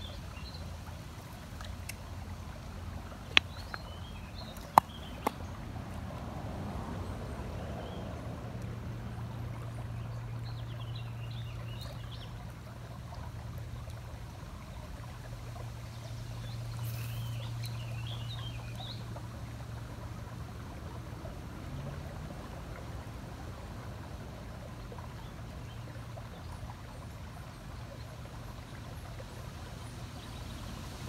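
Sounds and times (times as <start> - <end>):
low steady rumble: 0.0 - 31.0
water flowing over rocks: 0.0 - 31.0.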